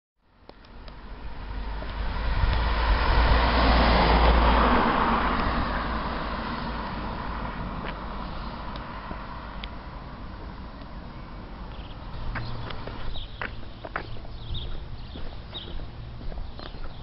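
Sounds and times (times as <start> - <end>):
car passing: 0.7 - 17.0.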